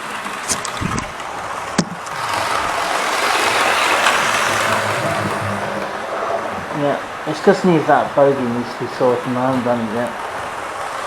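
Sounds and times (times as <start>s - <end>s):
model train motor hum: 0.0s - 11.0s
wheels on rails: 0.0s - 11.0s.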